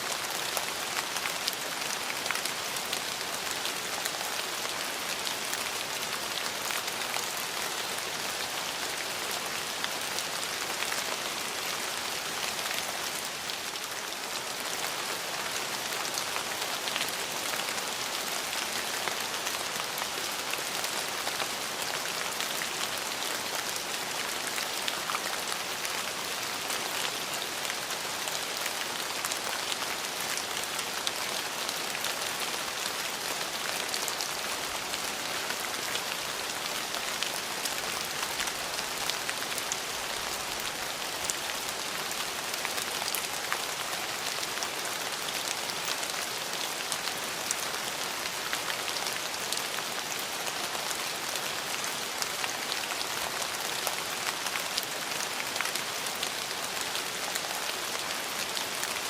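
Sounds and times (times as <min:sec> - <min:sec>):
rain falling on hard surface: 0:00.0 - 0:59.0.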